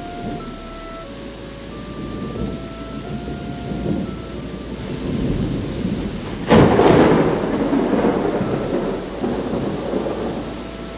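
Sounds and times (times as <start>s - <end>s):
loud thunderclap and rumble: 0.0s - 0.6s, 1.7s - 10.9s
steady rain falling: 0.0s - 10.9s.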